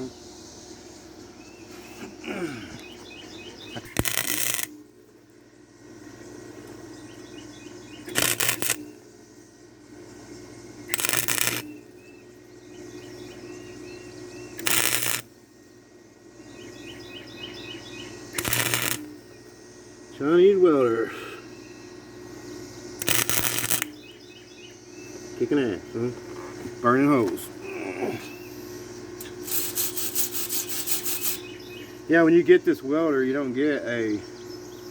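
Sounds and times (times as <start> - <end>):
arc welder crackling: 0.0 - 34.2.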